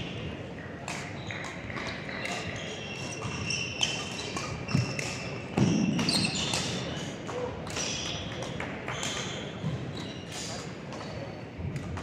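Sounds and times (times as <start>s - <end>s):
shoes squeaking on court floor: 0.9s - 11.4s.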